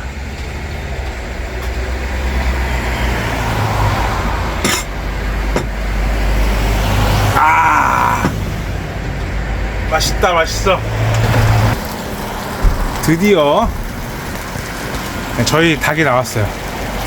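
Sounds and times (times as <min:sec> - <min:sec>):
low rumbling traffic noise: 0:00.0 - 0:17.0.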